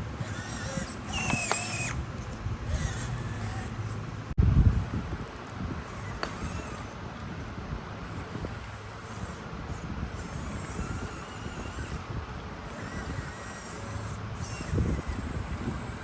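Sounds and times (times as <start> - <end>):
toy truck motor and gears: 0.0 - 16.0.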